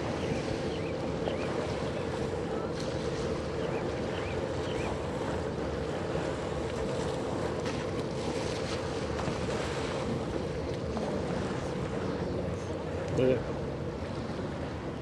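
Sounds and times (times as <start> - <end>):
ship machinery drone: 0.0 - 15.0.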